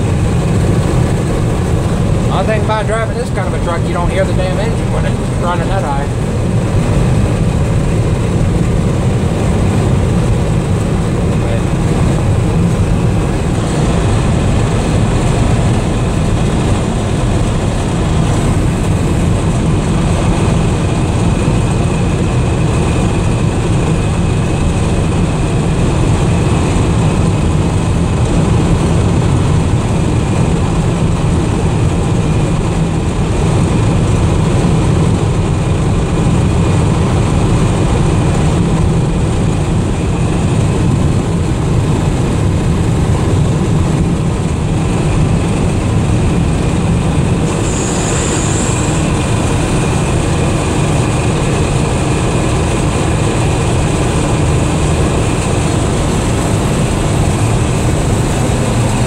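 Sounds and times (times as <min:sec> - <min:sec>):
road noise: 0:00.0 - 0:59.0
wind noise inside vehicle cab: 0:00.0 - 0:59.0.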